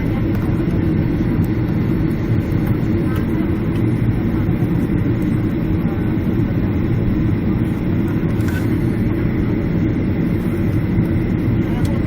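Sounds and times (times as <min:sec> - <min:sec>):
airplane engines and airflow rumble: 0:00.0 - 0:12.0.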